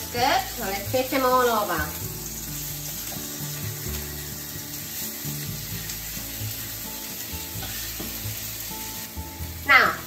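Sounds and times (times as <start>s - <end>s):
spatula turning food in pan: 0.0s - 9.9s
fish sizzling in oil: 0.0s - 10.0s
light background music: 0.0s - 10.0s.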